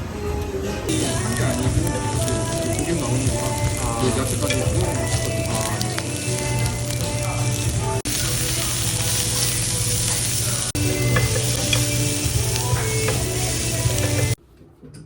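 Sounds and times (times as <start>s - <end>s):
background music: 0.0s - 14.4s
food sizzling in a pan: 0.9s - 14.4s.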